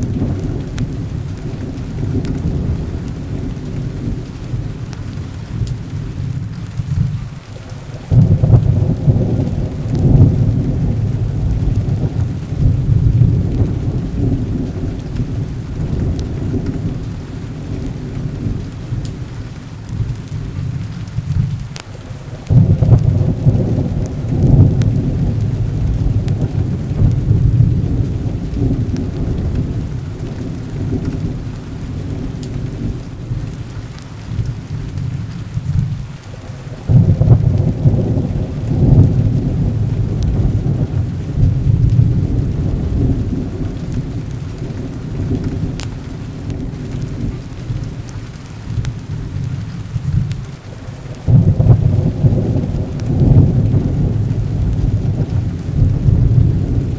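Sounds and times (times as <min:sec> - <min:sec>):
heavy rain: 0:00.0 - 0:56.9
thunder rumbling: 0:00.0 - 0:56.9.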